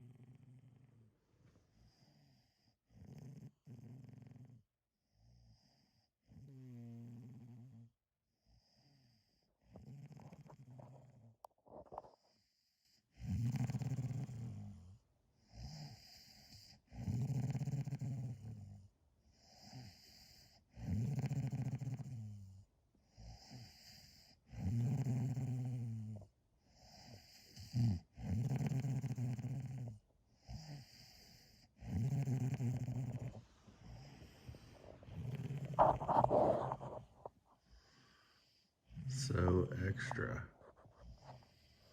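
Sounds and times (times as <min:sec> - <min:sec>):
loud snoring: 0:01.8 - 0:04.6, 0:05.2 - 0:07.9, 0:08.6 - 0:11.2, 0:13.2 - 0:40.5.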